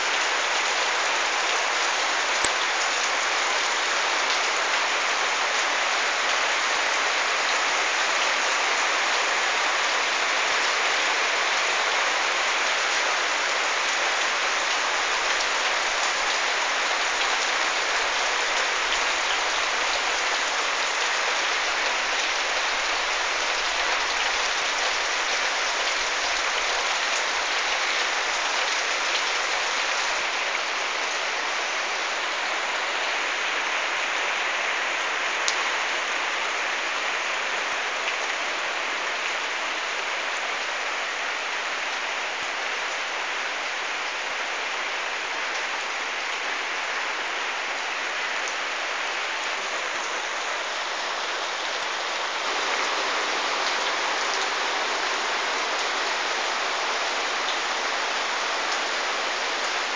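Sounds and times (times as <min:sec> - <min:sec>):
heavy rain on paving and plants: 0:00.0 - 0:59.9.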